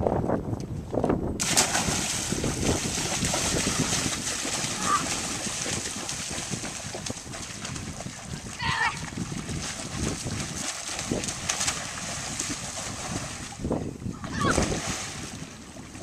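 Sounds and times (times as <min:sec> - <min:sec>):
feet splashing through shallow water: 0:01.4 - 0:16.0.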